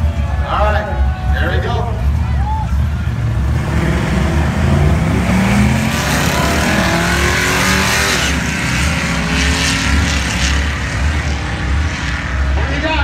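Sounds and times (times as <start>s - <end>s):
car engines accelerating: 0.0s - 13.0s.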